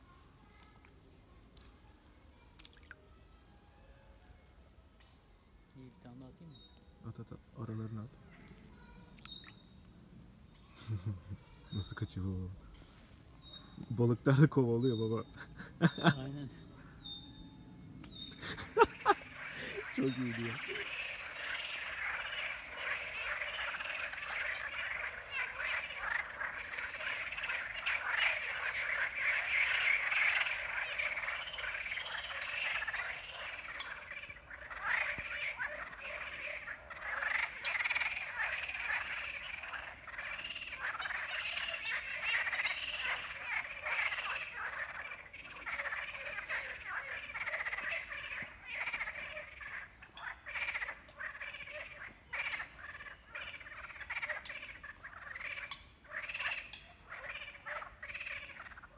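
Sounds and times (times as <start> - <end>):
frogs croaking in chorus: 2.6 - 3.3, 5.2 - 58.9.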